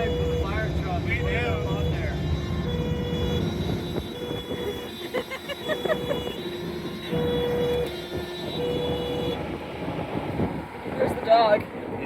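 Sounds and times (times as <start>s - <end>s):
fire engine two-tone siren: 0.0s - 11.0s
low engine rumble: 0.0s - 12.0s.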